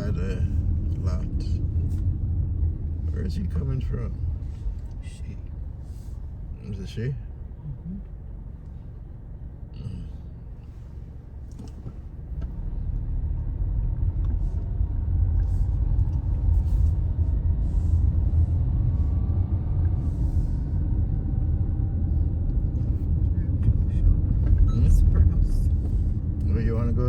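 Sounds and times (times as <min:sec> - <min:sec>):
car interior engine and road noise: 0:00.0 - 0:27.0.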